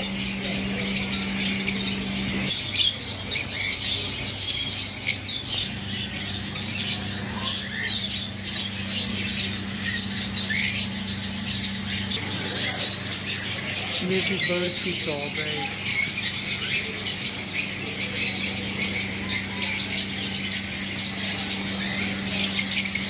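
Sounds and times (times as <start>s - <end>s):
birds chirping and squawking: 0.0s - 23.0s
low steady hum: 0.0s - 23.0s.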